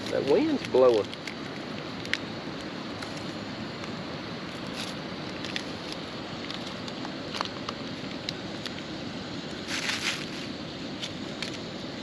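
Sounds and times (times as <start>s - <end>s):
campfire crackles: 0.0s - 12.0s
wind blowing: 0.0s - 12.0s.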